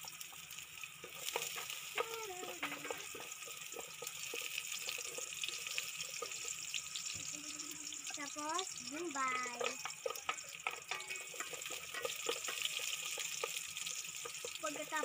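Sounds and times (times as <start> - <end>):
garlic sizzling in hot oil: 0.0 - 15.0
wooden spatula stirring: 0.9 - 7.4, 8.1 - 15.0.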